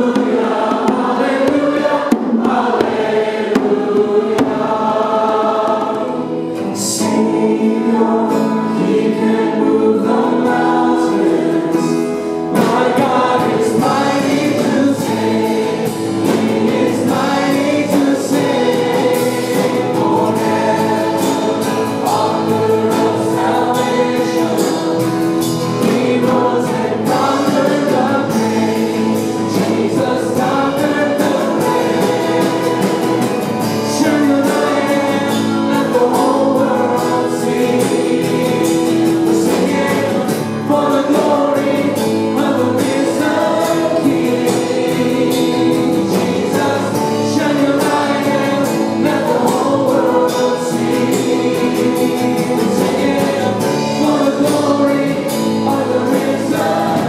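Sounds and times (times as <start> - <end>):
acoustic guitar: 0.0 - 57.0
choir and band singing a hymn: 0.0 - 57.0.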